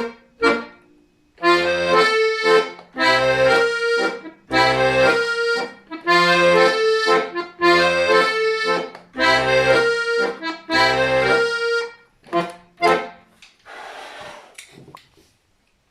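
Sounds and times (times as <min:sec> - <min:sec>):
accordion chords: 0:00.0 - 0:13.3.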